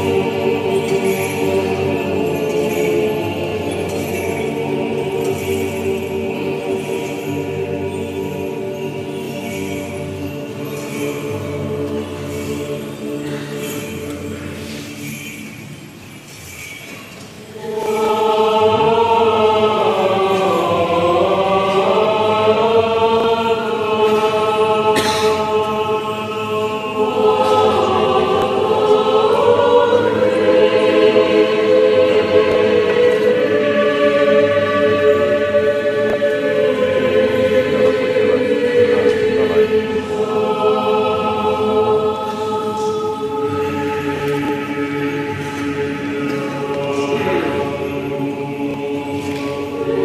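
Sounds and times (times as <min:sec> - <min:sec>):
choir chanting: 0:00.0 - 0:15.6, 0:16.7 - 0:50.0.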